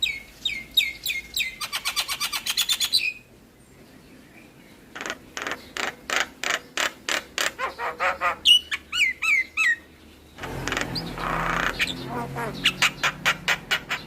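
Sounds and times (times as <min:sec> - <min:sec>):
bird singing harsh rasping notes: 0:00.0 - 0:14.0.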